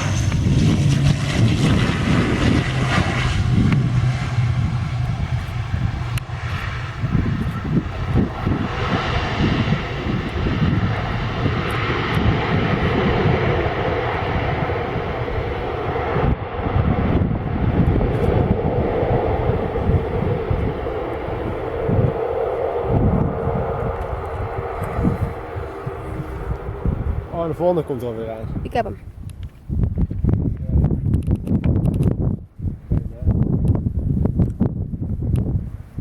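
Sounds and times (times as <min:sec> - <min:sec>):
airliner engines droning: 0:00.0 - 0:29.1.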